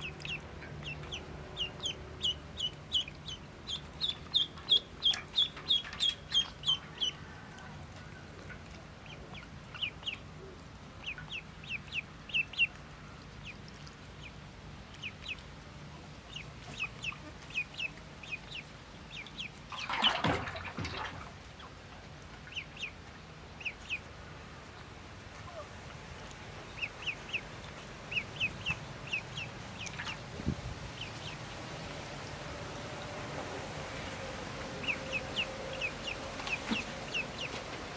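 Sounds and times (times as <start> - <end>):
ducklings peeping: 0.0 - 7.2, 8.3 - 37.9.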